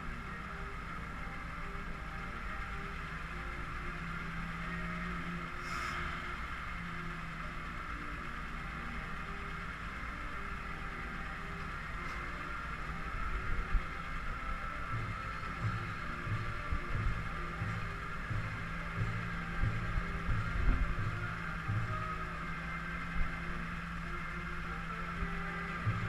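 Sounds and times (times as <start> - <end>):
low rhythmic pulse: 0.0 - 26.0
outdoor hiss: 0.0 - 26.0
vehicle engines idling: 0.0 - 26.0.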